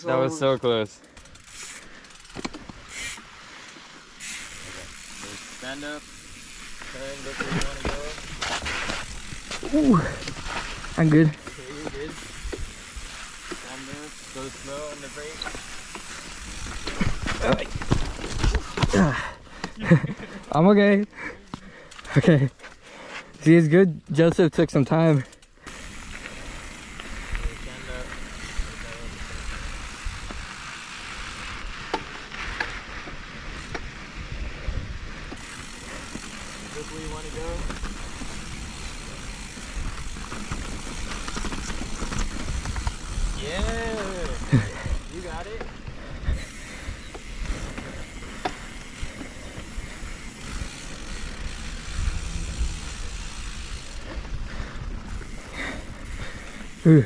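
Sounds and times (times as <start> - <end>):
bike clicks and knocks: 1.1 - 3.3, 4.2 - 20.7, 25.0 - 34.0, 35.2 - 56.8
bike tyres rumbling on dirt: 1.1 - 57.0.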